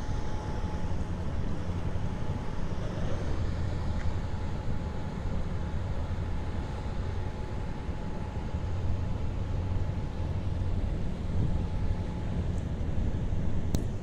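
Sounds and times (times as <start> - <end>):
faint steady hum: 0.0 - 14.0
ship low rumble: 0.0 - 14.0.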